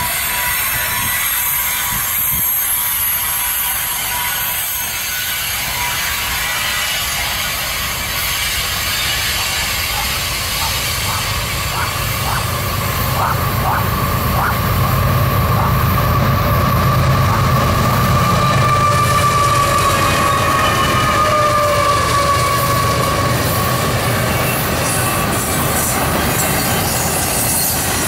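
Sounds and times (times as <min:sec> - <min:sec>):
diesel locomotive rumble: 0:00.0 - 0:28.0
high wheel squeal: 0:00.0 - 0:28.0.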